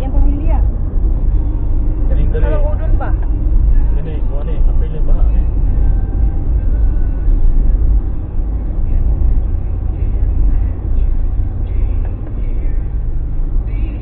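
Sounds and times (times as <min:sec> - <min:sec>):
steady low rumbling noise: 0:00.0 - 0:14.0.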